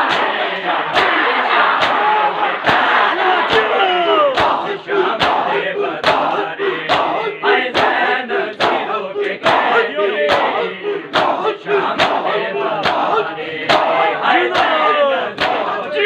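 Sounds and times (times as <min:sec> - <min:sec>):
hands slapping chests in unison: 0:00.0 - 0:16.0
men chanting together: 0:00.0 - 0:16.0.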